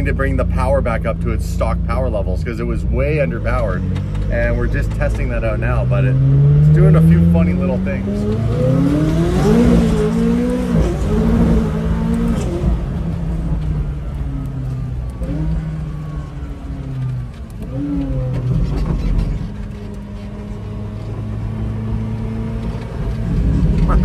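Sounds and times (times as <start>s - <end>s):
race car engine revving: 0.0s - 24.0s.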